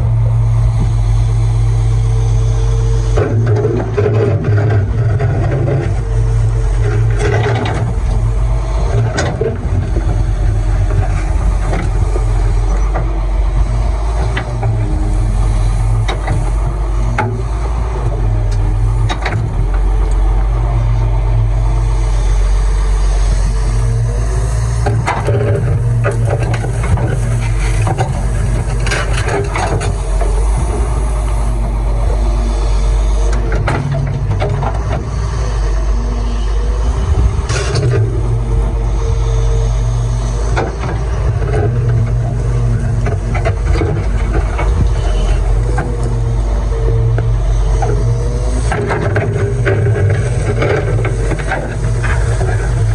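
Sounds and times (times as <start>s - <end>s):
excavator diesel engine running: 0.0s - 52.9s
digging knocks and clatter: 3.0s - 21.9s, 23.4s - 35.7s, 37.4s - 52.9s.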